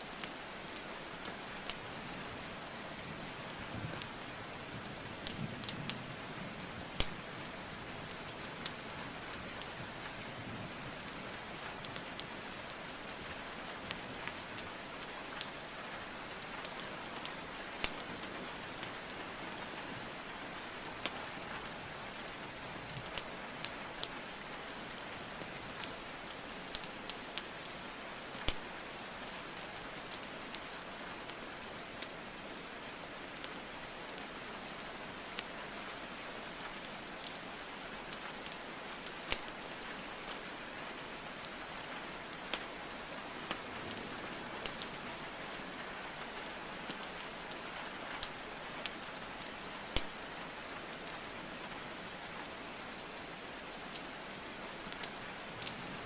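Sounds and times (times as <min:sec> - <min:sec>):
steady rainfall hiss: 0:00.0 - 0:56.0
wood fire crackling: 0:00.0 - 0:56.0.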